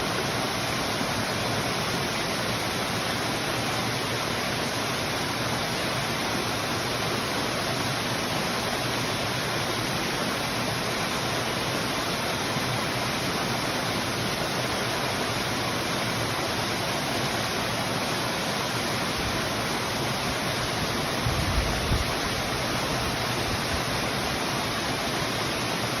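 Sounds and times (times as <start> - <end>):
stream water flowing: 0.0 - 26.0.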